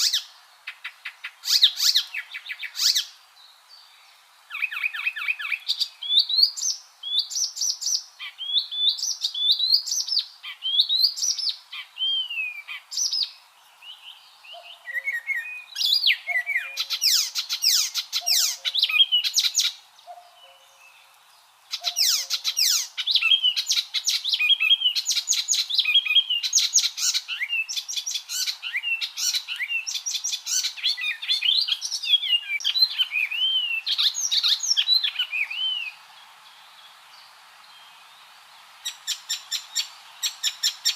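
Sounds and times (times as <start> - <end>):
warbler singing: 0.0 - 40.9.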